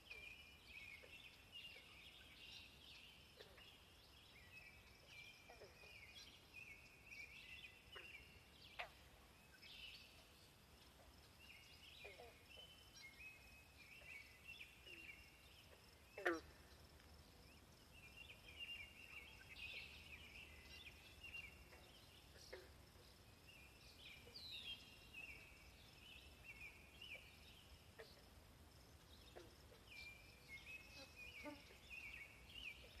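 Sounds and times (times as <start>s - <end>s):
small birds chirping and trilling: 0.0s - 33.0s.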